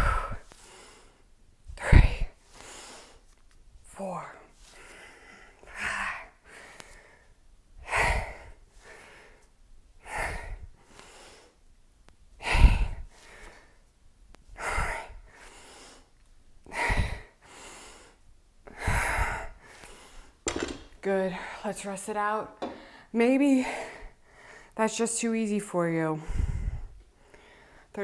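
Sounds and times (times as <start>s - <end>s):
woman breathing heavily: 0.0s - 3.4s, 4.0s - 11.7s, 12.4s - 13.9s, 14.5s - 24.8s, 26.1s - 28.0s.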